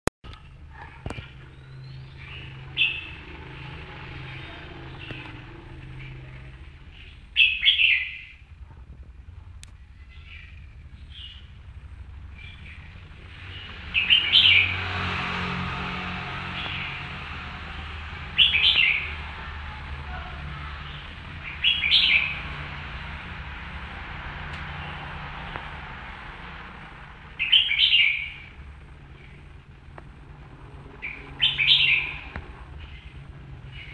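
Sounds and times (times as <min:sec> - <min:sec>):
steady low hum: 0:00.2 - 0:33.9
bird chirping: 0:00.3 - 0:08.5, 0:09.7 - 0:33.9.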